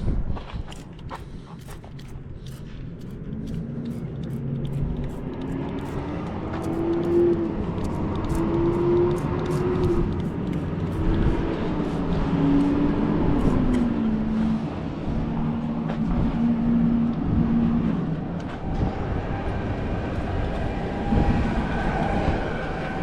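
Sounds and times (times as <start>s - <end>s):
engine running: 0.7s - 21.3s.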